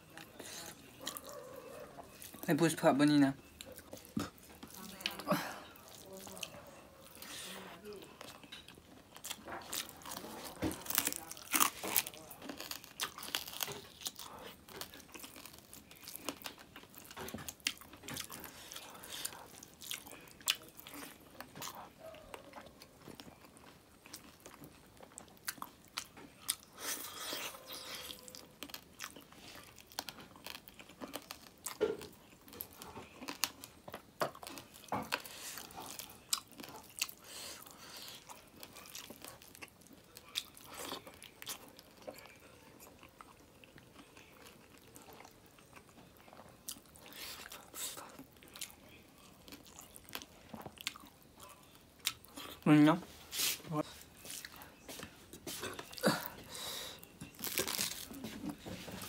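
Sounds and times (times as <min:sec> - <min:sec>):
chewing and lip smacking: 0:03.4 - 0:52.6.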